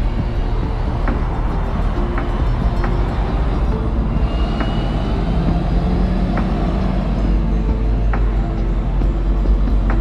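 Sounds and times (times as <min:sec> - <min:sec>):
bus engine rumbling: 0:00.0 - 0:10.0
city street traffic: 0:00.0 - 0:10.0.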